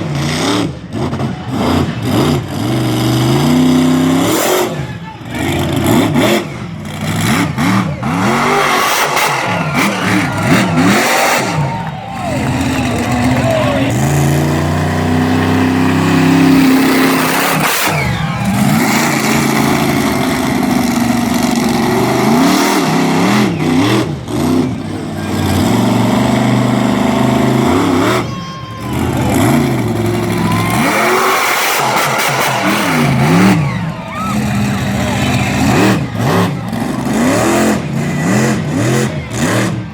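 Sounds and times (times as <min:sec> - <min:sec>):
monster truck engine revving: 0:00.0 - 0:39.9.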